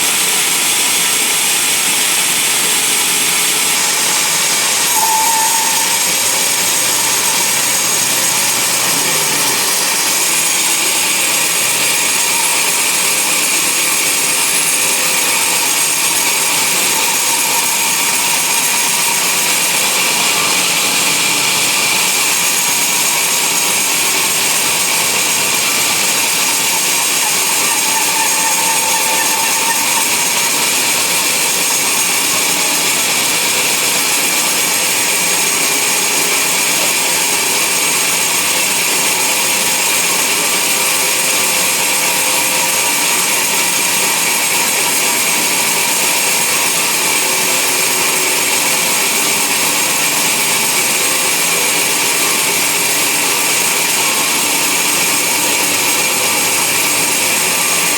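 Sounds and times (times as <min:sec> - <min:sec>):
band saw cutting log: 0:00.0 - 0:57.9.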